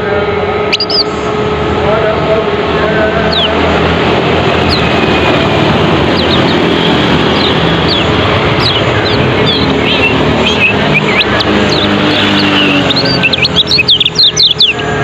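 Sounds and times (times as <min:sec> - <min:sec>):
loud steady rushing noise: 0:00.0 - 0:15.0
birds calling in high chirps: 0:00.7 - 0:01.4, 0:03.2 - 0:15.0.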